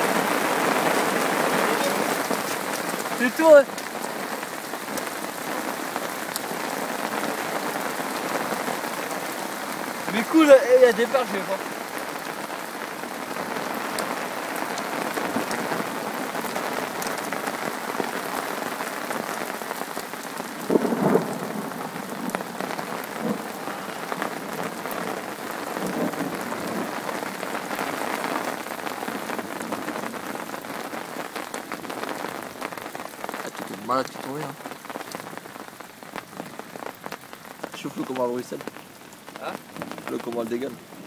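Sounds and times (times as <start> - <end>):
heavy rain on water: 0.0 - 41.0.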